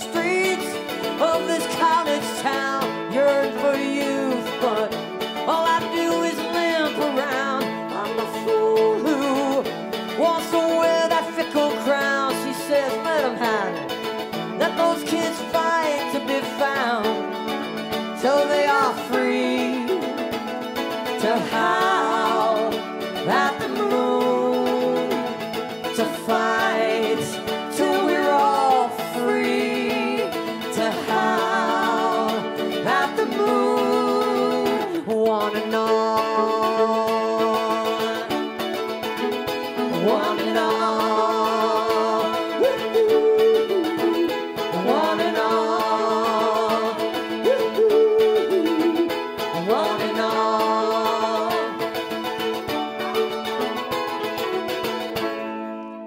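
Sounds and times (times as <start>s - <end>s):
fiddle melody: 0.0s - 56.0s
mandolin strumming: 0.0s - 56.0s
upright bass: 0.0s - 56.0s.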